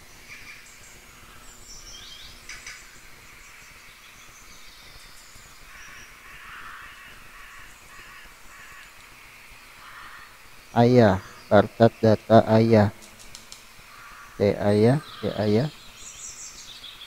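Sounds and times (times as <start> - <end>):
faint bird calls: 0.0 - 17.0.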